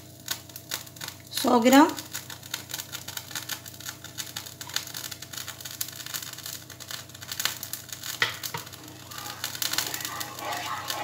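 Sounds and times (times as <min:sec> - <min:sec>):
milk crackling in a hot pan: 0:00.0 - 0:11.0.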